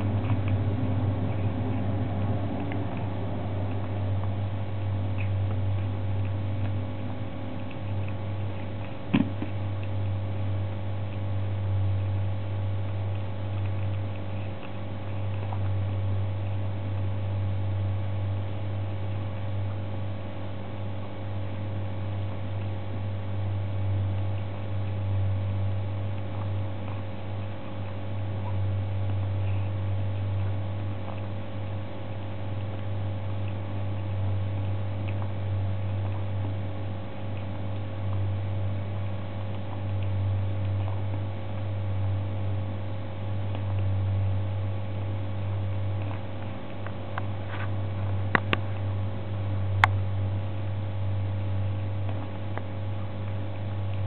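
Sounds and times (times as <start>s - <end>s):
kitten chewing wetly: 0.0s - 54.0s
low electrical hum: 0.0s - 54.0s.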